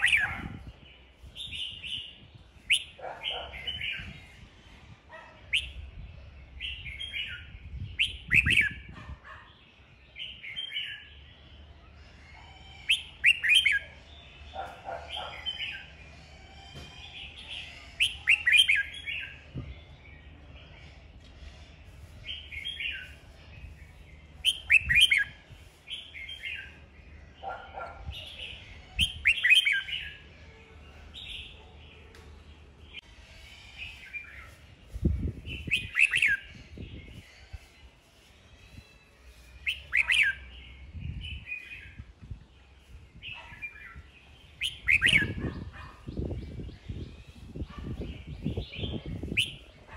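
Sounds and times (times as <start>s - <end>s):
bird warbling song: 0.0s - 4.5s, 5.1s - 9.5s, 12.8s - 16.0s, 16.8s - 30.2s, 32.8s - 49.9s.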